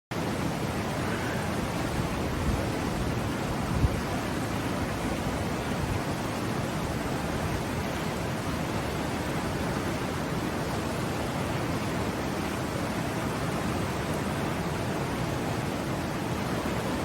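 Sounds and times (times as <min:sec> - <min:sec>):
river water rushing: 0:00.1 - 0:17.0.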